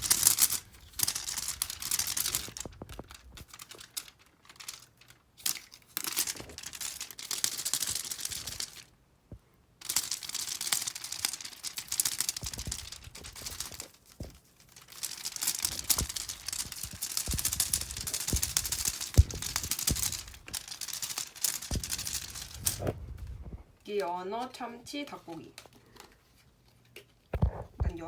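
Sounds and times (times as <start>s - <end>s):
plastic packaging crinkling: 0.0s - 8.9s, 9.8s - 24.6s.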